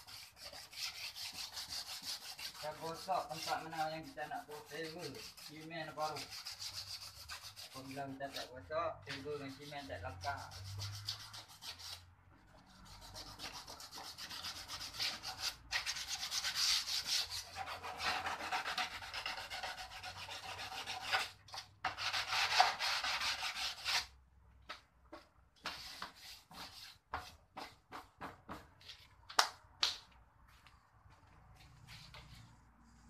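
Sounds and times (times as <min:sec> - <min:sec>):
hand sanding plastic: 0:00.0 - 0:24.1, 0:24.7 - 0:29.1.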